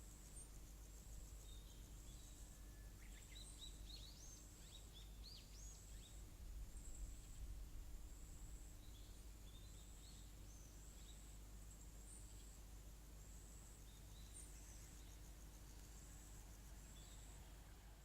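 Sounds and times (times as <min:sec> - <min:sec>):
high-pitched insect trill: 0:00.0 - 0:17.7.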